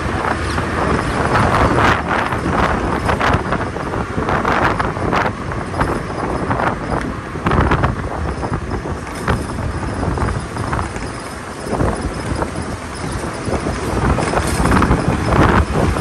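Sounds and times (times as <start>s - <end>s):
scooter motor and tyres rumbling: 0.0s - 16.0s
wind buffeting microphone: 0.0s - 16.0s.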